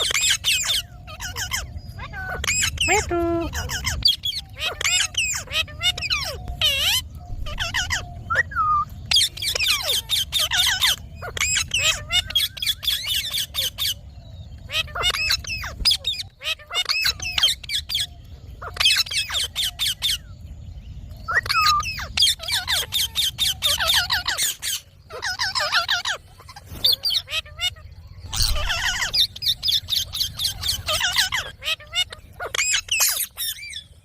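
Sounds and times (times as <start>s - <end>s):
parakeet squawking: 0.0s - 14.0s, 14.7s - 20.3s, 21.3s - 33.9s.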